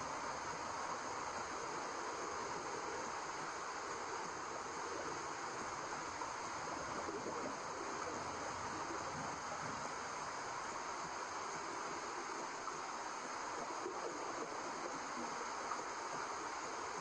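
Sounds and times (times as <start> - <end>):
steady white noise hiss: 0.0 - 17.0.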